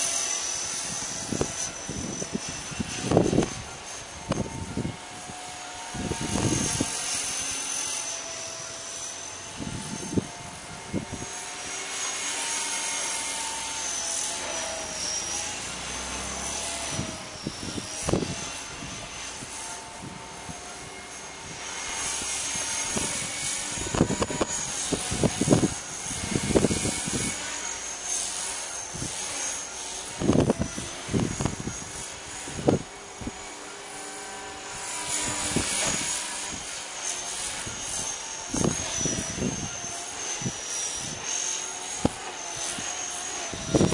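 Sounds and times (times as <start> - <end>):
rc helicopter whine: 0.0 - 43.9
wind buffeting microphone: 0.4 - 7.6, 9.4 - 27.6, 28.2 - 43.9.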